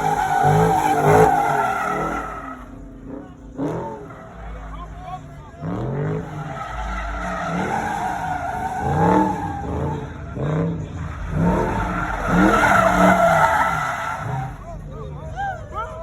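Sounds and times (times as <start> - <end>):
car engine revving: 0.0 - 16.0
car tyres squealing: 0.0 - 16.0.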